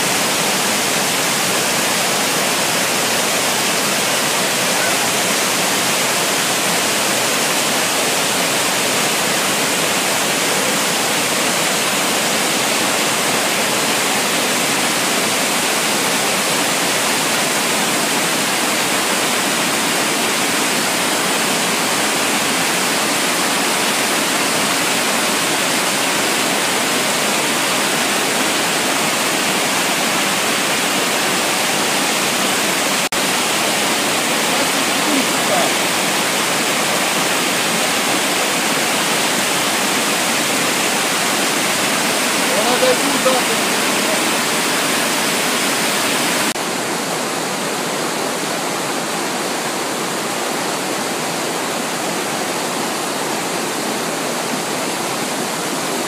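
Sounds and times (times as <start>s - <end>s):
river water rushing over boulders: 0.0s - 56.0s.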